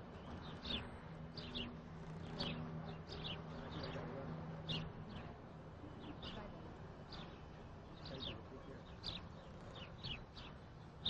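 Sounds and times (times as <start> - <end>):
faint low hum: 0.0 - 11.0
small birds chirping: 0.0 - 11.0.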